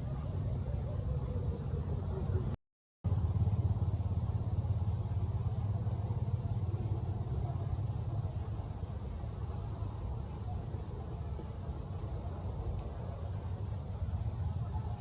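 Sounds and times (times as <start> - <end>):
faint noise hiss: 0.0 - 15.0
steady low rumble: 0.0 - 15.0.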